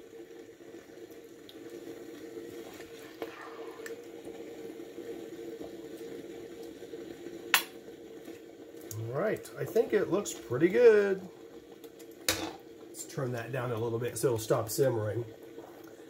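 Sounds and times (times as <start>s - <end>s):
gravy simmering in a wok: 0.0s - 16.0s.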